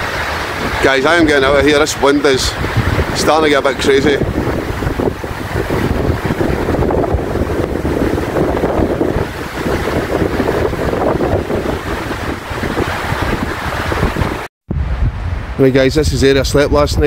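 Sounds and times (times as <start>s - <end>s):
wind buffeting microphone: 0.0s - 17.0s
wind rushing through trees: 0.0s - 17.0s.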